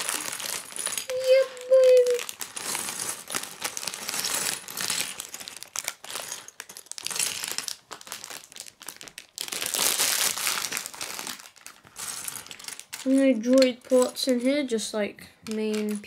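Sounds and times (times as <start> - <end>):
plastic bag crinkling: 0.0 - 14.5, 15.4 - 16.0
plastic pieces clattering on wood: 0.0 - 14.5, 15.4 - 16.0.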